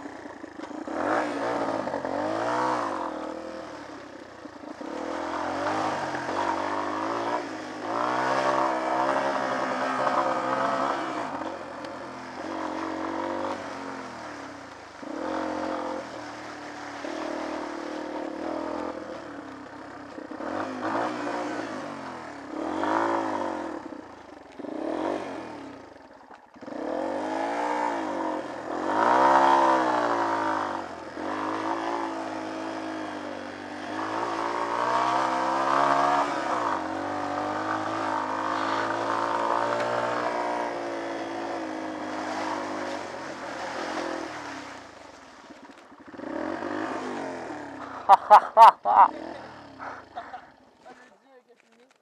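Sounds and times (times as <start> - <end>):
motorcycle engine revving: 0.0 - 51.1.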